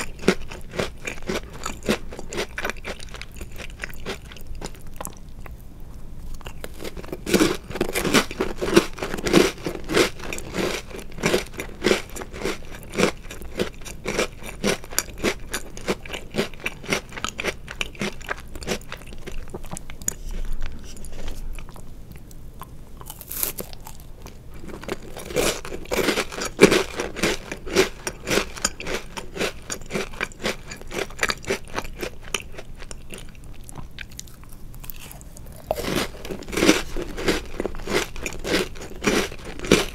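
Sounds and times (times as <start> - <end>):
crunching cookies: 0.0 - 5.6, 6.2 - 39.9
soft chewing: 0.0 - 39.9.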